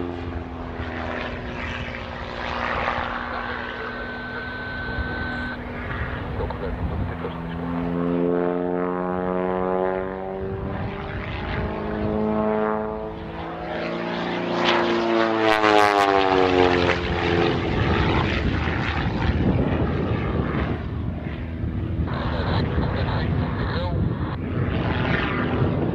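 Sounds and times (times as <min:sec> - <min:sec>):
propeller plane engine droning: 0:00.0 - 0:25.9.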